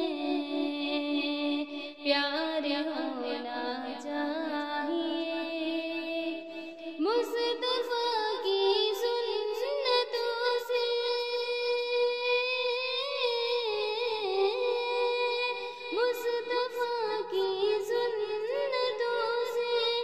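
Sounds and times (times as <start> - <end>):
high voice singing devotional song: 0.0 - 20.0.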